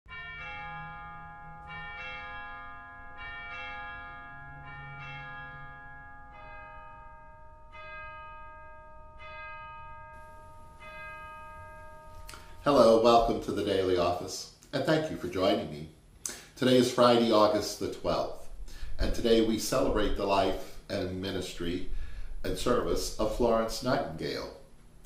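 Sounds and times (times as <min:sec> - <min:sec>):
church bells ringing: 0:00.1 - 0:14.3, 0:17.0 - 0:24.6.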